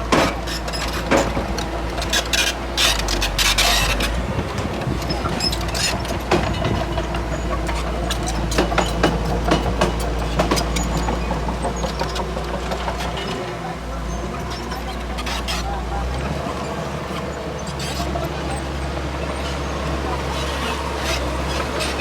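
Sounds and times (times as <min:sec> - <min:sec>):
diesel engine rumble: 0:00.0 - 0:22.0
metallic clanks of steel tracks: 0:00.0 - 0:22.0.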